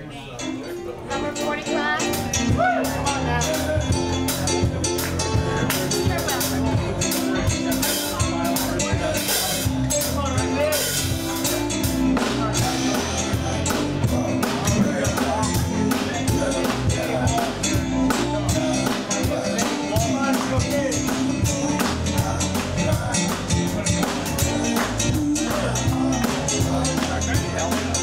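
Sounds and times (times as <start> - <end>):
band playing a hymn: 0.4 - 28.0
drum kit beat: 1.4 - 28.0
sustained bass line: 2.2 - 28.0.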